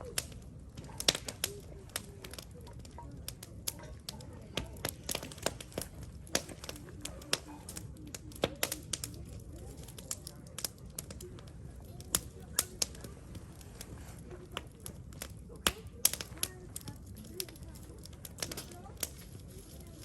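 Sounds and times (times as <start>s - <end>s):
sharp pops and snaps: 0.0s - 20.0s
wood fire crackling: 0.0s - 20.0s.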